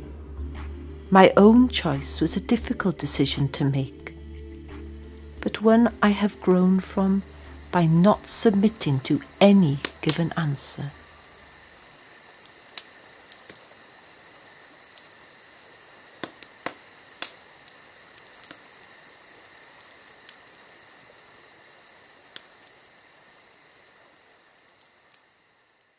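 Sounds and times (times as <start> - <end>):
crickets chirping: 0.3 - 25.9.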